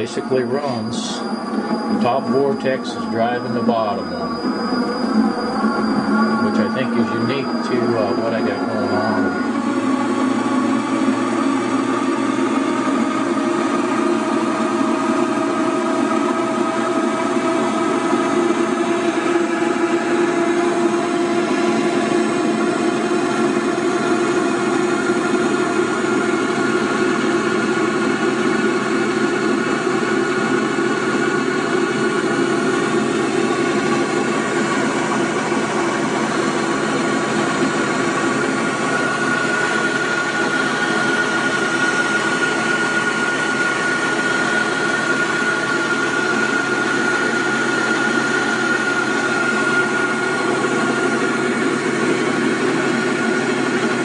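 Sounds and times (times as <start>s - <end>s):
motor whirring with whining tones: 0.0s - 54.0s.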